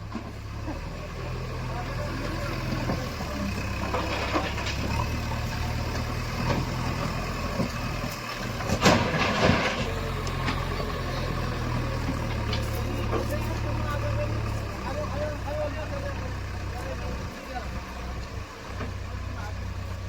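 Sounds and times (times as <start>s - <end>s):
diesel engine running: 0.0s - 20.0s
engine clatter and knocks: 0.0s - 20.0s.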